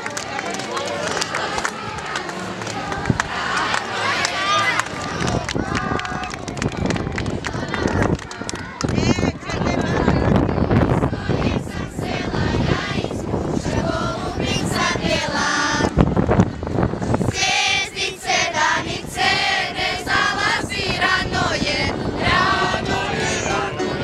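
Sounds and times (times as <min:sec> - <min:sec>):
girls singing together: 0:01.2 - 0:16.1, 0:17.2 - 0:24.0
wind buffeting microphone: 0:01.5 - 0:24.0.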